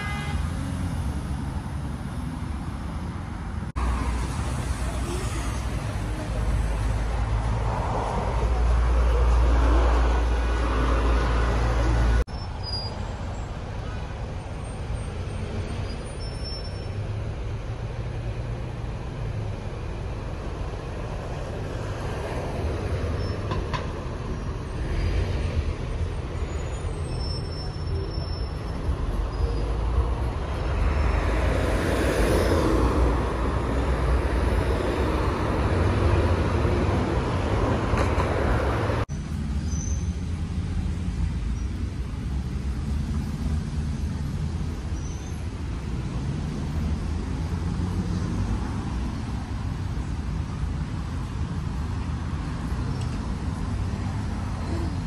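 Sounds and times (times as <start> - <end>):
cars passing on street: 0.0 - 55.0.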